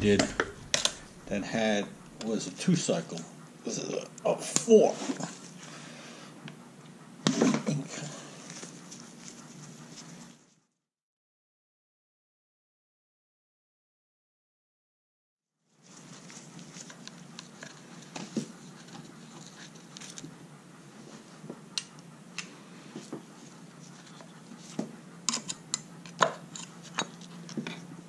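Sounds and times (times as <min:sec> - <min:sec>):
steady low hum: 0:00.0 - 0:10.6, 0:15.7 - 0:28.0.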